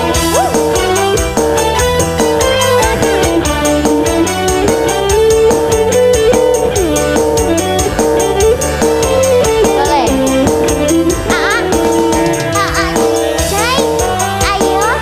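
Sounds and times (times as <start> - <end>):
band playing live: 0.0 - 15.0
bending melody line: 0.0 - 15.0
fast percussion with jingle: 0.0 - 15.0.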